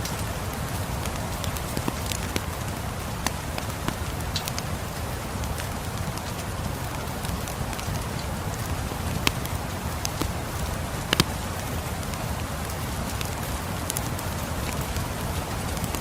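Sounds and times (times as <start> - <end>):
steady rain falling: 0.0 - 16.0
wood fire crackling and popping: 1.0 - 16.0.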